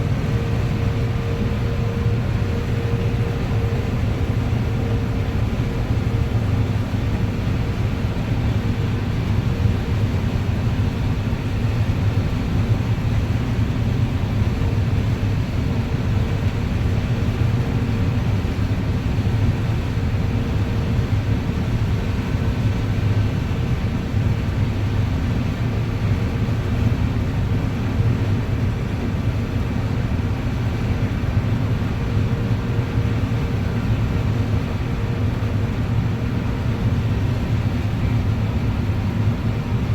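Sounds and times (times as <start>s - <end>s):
combine harvester drone: 0.0s - 39.9s
faint steady hum: 0.0s - 39.9s.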